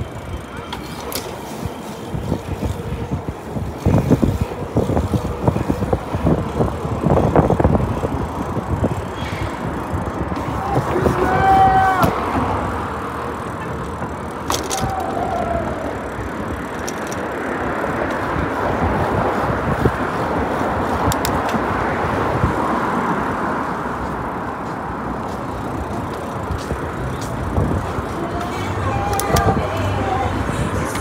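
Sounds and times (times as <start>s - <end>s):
bike tyre rumble: 0.0s - 31.0s
wind over microphone: 0.0s - 31.0s.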